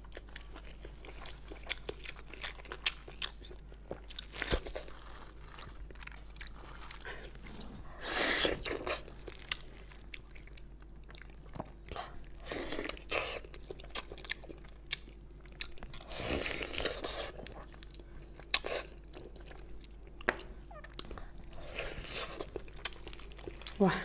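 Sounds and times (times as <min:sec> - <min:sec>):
chewing pork: 0:00.0 - 0:24.0.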